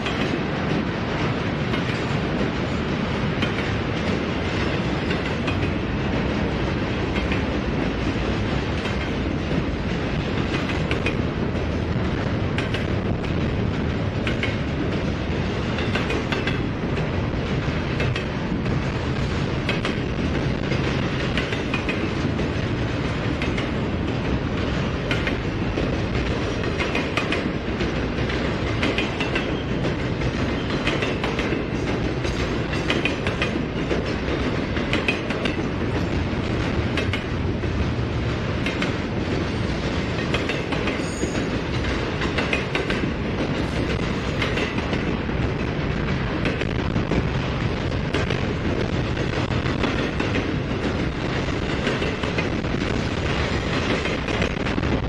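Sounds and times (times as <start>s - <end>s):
wheels clicking over rail joints: 0.0s - 54.9s
freight train rumbling past: 0.0s - 55.0s.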